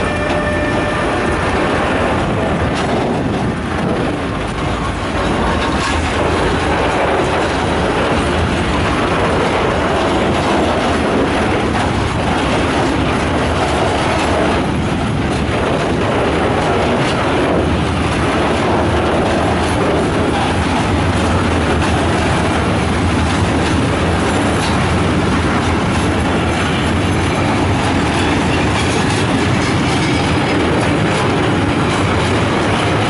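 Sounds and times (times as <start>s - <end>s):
rail clicks: 0.0s - 33.0s
wagon wheels rolling on rails: 1.5s - 33.0s.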